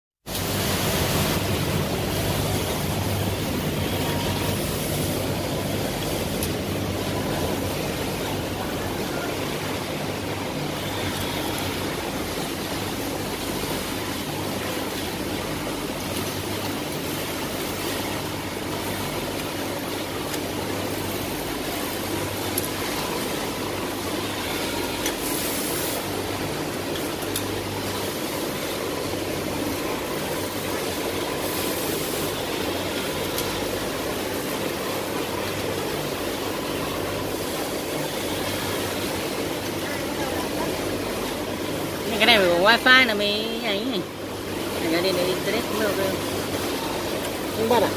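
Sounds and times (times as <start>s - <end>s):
industrial sewing machines running: 0.3s - 47.9s.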